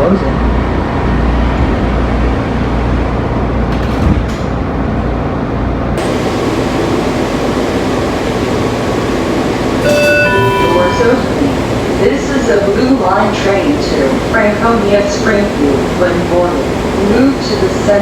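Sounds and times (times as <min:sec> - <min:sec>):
train car running rumble: 0:00.0 - 0:18.0.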